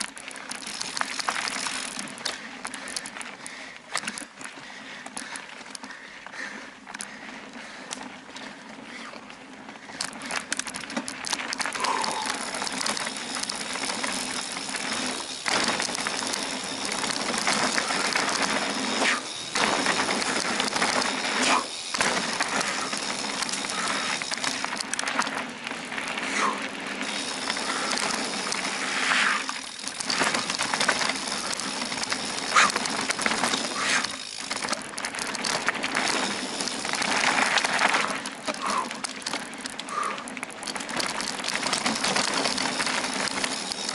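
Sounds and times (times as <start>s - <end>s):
bike tyres rolling and rattling: 0.0s - 43.9s.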